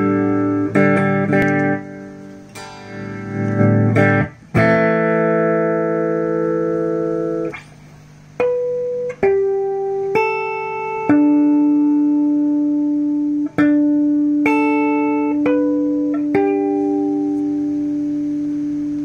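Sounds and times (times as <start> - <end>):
guitar chords and notes: 0.0 - 19.0.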